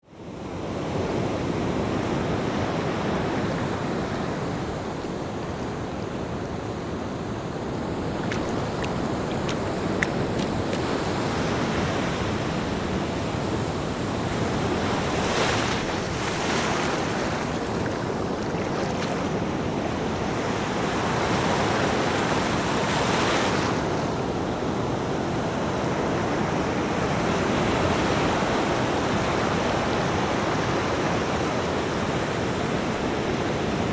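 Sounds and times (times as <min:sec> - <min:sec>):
ocean waves breaking on shore: 0:00.2 - 0:33.9.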